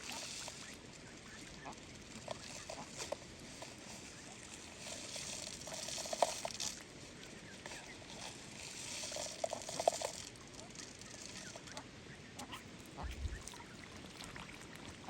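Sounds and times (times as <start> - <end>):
ducks splashing in shallow water: 0.0 - 15.0.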